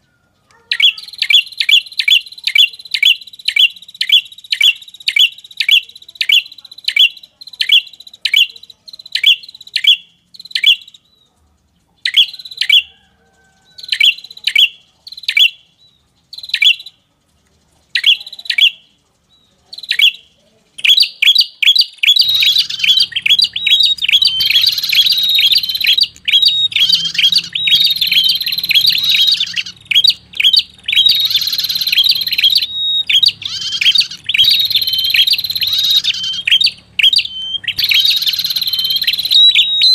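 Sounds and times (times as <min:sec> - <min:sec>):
rapid bird chattering: 0:00.0 - 0:13.0, 0:13.7 - 0:39.9
bird chirping: 0:00.0 - 0:39.9.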